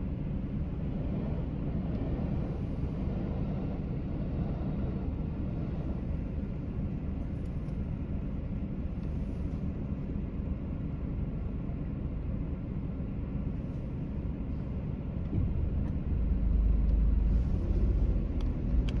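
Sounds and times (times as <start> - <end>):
low vehicle rumble: 0.0 - 19.0.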